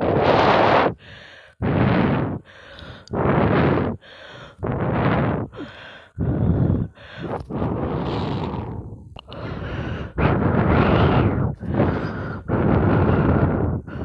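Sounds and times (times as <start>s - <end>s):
loud heavy breathing: 0.8s - 14.0s.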